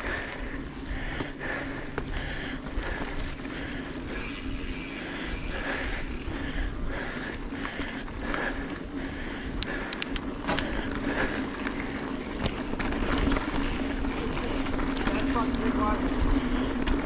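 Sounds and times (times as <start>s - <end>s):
bike clicking and rattling: 0.0s - 17.0s.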